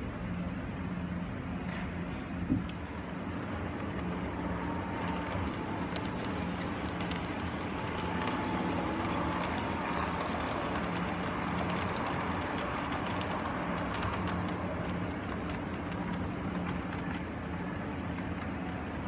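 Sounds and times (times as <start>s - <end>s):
model train running on track: 2.3s - 19.0s.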